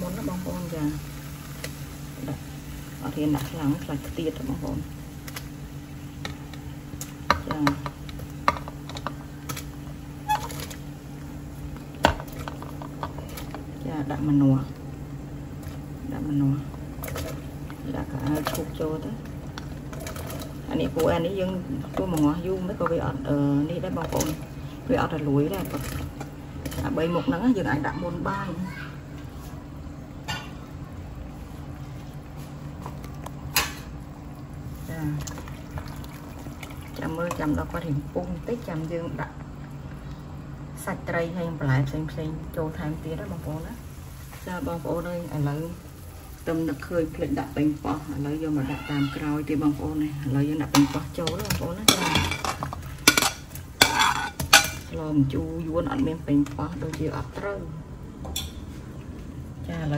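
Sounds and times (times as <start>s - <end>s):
kitchen hum: 0.0s - 59.9s.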